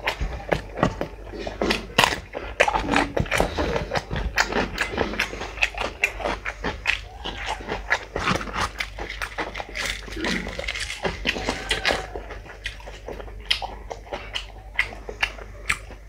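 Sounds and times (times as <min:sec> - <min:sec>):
biting into chili: 0:00.0 - 0:16.0
wet chewing and lip smacking: 0:00.0 - 0:16.0.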